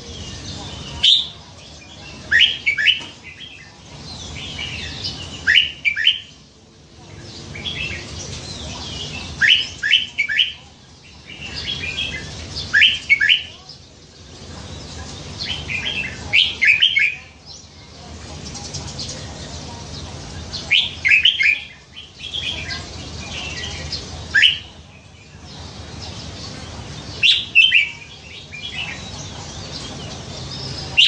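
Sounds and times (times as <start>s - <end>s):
bird singing whistled notes: 0.1s - 6.4s, 7.2s - 13.8s, 15.4s - 17.7s, 20.5s - 26.5s, 27.2s - 31.0s.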